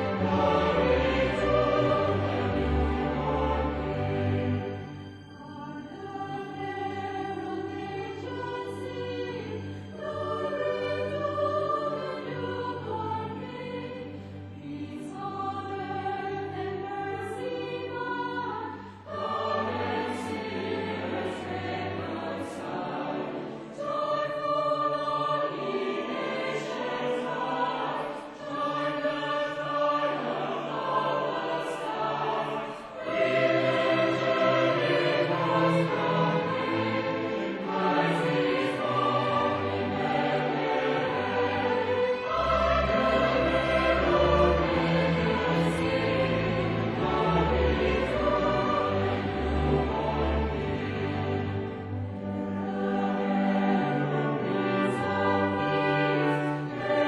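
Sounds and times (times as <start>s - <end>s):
choir singing carol in harmony: 0.0s - 57.0s
string orchestra: 0.0s - 57.0s.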